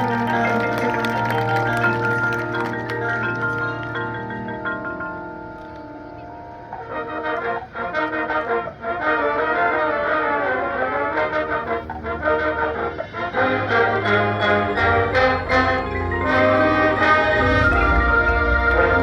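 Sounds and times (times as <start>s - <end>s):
marching band playing: 0.0s - 5.7s, 6.8s - 19.0s
brass chords: 0.0s - 19.0s.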